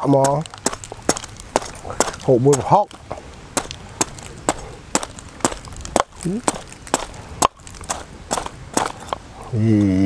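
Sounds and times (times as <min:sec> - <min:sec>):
knife chopping on wooden block: 0:00.0 - 0:03.0, 0:03.6 - 0:09.2.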